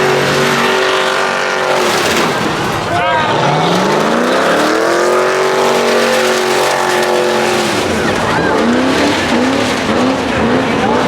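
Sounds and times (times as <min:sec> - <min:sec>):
truck engine revving: 0:00.0 - 0:11.0
tyres spinning: 0:00.0 - 0:11.0.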